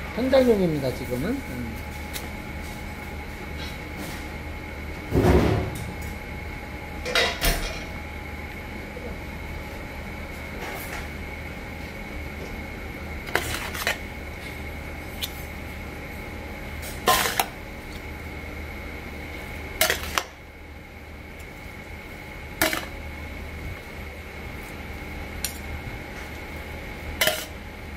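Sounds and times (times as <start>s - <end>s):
steady background hum: 0.0s - 27.9s.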